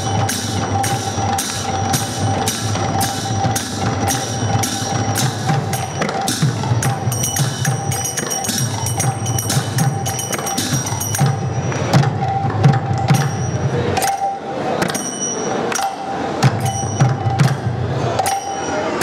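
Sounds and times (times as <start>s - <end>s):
two-headed drums playing: 0.0s - 15.1s, 15.8s - 19.0s
hand cymbals clashing: 0.0s - 19.0s.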